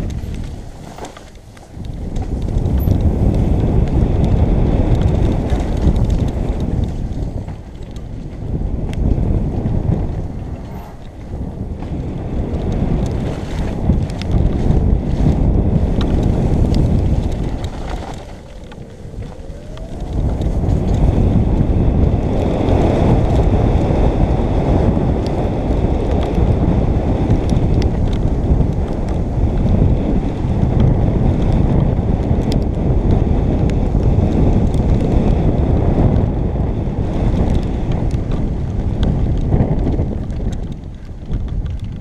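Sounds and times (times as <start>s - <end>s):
tyres rolling on dirt: 0.0s - 36.2s
bike clicking and rattling: 0.0s - 42.0s
wind buffeting microphone: 0.0s - 42.0s.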